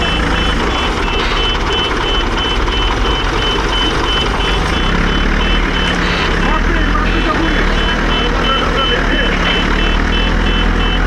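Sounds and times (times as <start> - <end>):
diesel engines running: 0.0 - 11.0
reversing alarm beeps: 0.0 - 11.0.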